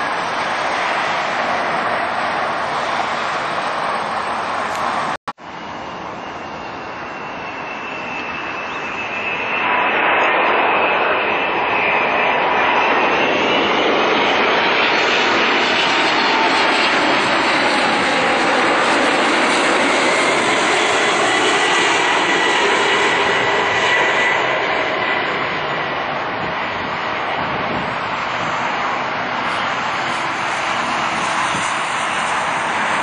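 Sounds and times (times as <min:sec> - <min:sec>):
jet passing overhead: 0:00.0 - 0:33.0.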